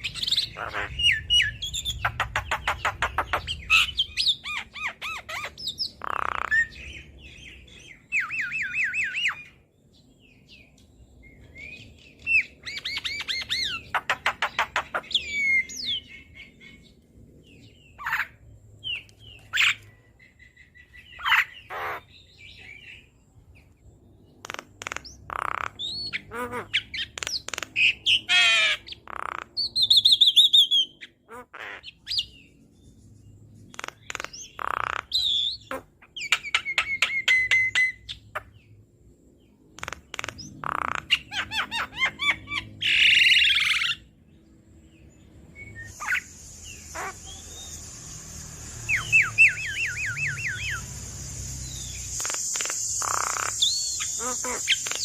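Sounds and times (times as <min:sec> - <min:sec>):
bird song with whistles and rattles: 0:00.0 - 0:09.6, 0:10.3 - 0:23.1, 0:24.4 - 0:31.2, 0:32.0 - 0:38.6, 0:45.5 - 0:55.0.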